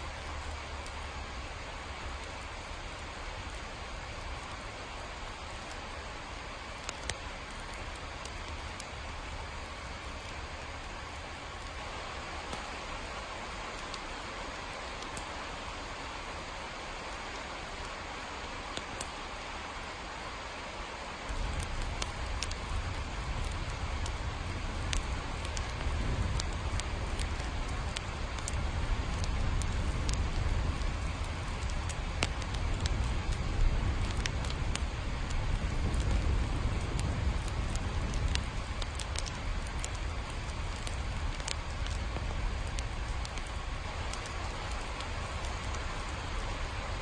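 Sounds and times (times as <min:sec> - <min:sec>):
sharp drips or crackles: 0:00.0 - 0:47.0
steady rain: 0:00.0 - 0:47.0.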